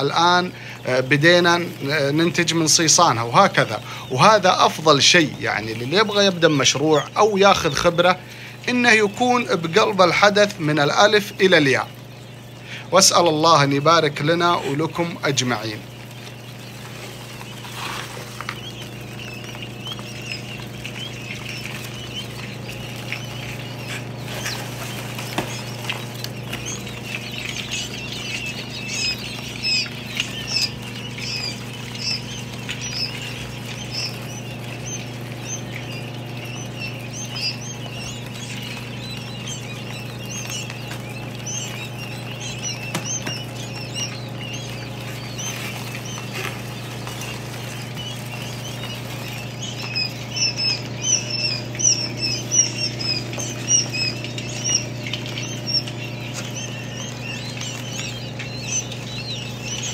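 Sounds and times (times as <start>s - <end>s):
chicks peeping: 0.0s - 59.9s
low machine hum: 0.0s - 59.9s.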